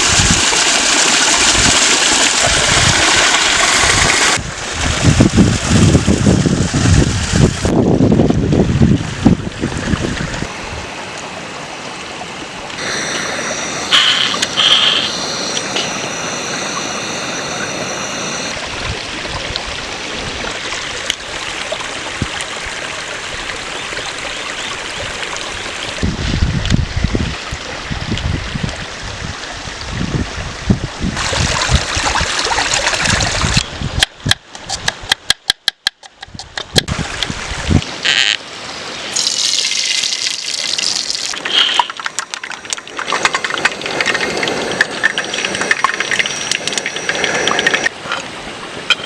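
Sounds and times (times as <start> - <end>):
stream water rushing: 0.0 - 33.6, 36.9 - 49.0.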